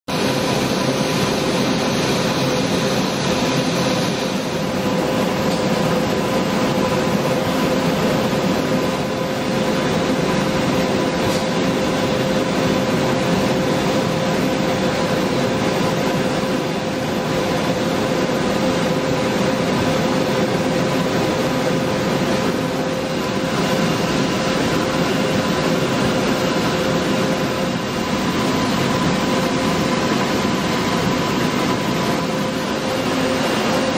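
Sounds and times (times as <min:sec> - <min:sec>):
spindle whine: 0:00.1 - 0:33.9.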